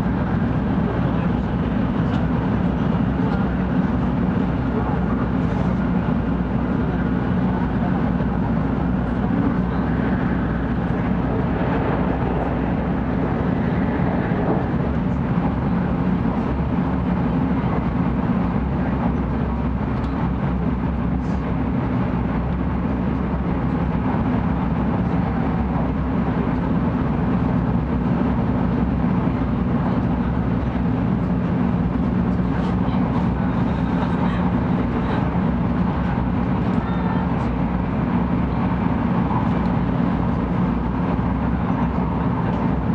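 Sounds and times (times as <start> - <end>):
train running hum and rush: 0.0 - 42.9.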